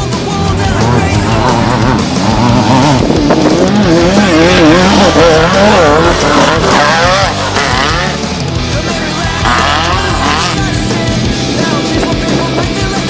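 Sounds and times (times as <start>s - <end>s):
race vehicle engine revving: 0.0s - 13.0s.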